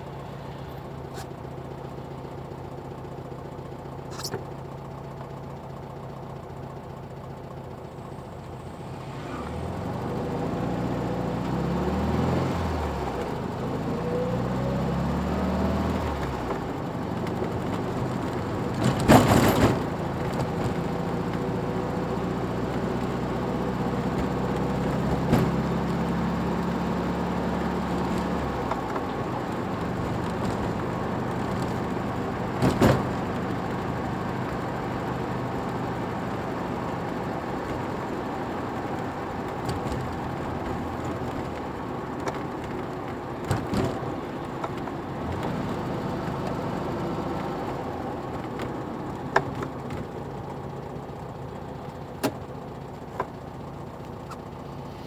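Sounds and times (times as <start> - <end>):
road noise: 0.0 - 55.0
car engine accelerating: 8.0 - 55.0.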